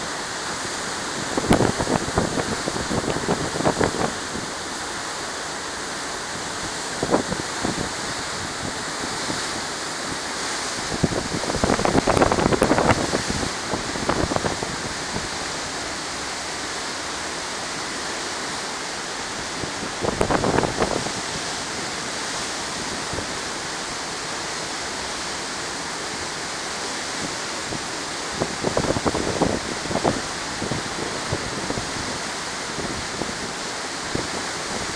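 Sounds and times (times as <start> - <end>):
wind on microphone: 0.0 - 5.4, 6.2 - 15.9, 19.1 - 24.1, 26.2 - 34.9
ship wake rushing: 0.0 - 34.9.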